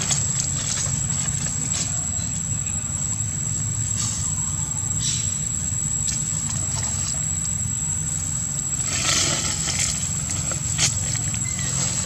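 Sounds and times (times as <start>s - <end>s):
high-pitched whine: 0.0s - 12.0s
steady low hum: 0.0s - 12.0s.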